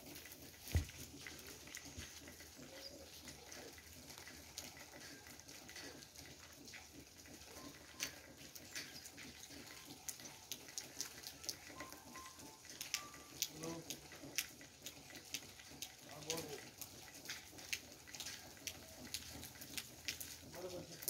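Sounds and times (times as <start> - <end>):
dripping and trickling water: 0.0 - 21.0.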